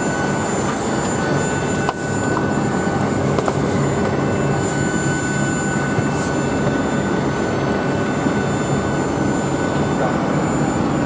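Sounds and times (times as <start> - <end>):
high whine: 0.0 - 11.0
jet turbine rumble and hiss: 0.0 - 11.0.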